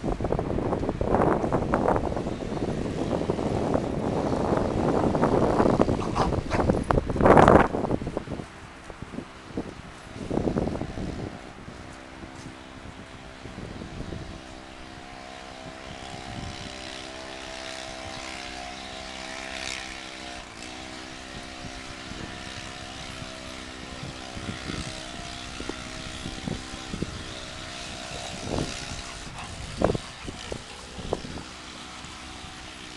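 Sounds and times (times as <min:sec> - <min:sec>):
engine droning: 0:00.0 - 0:32.9.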